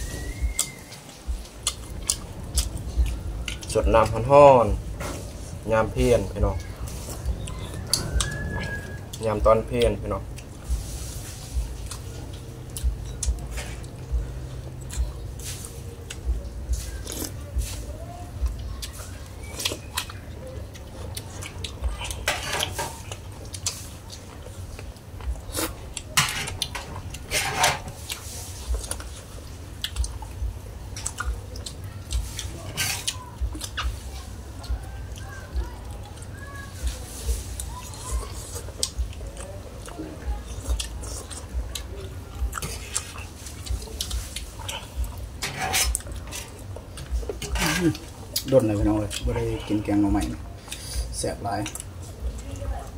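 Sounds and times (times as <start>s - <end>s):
chewing and slurping: 0.0s - 5.6s, 6.2s - 52.9s.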